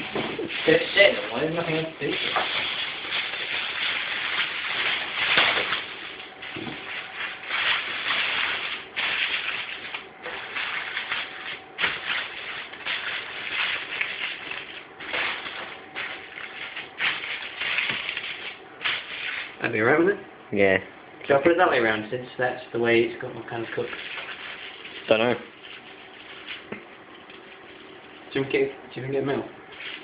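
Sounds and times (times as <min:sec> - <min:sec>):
rustling and crinkling: 0:00.0 - 0:19.6, 0:23.7 - 0:28.6, 0:29.6 - 0:30.0.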